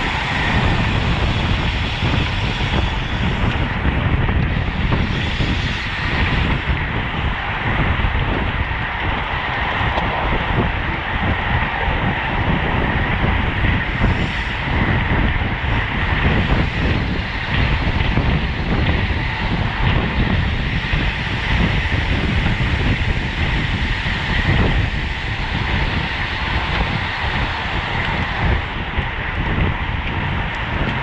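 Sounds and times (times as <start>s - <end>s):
tyres rumbling on asphalt: 0.0s - 31.0s
wind rushing over microphone: 0.0s - 31.0s.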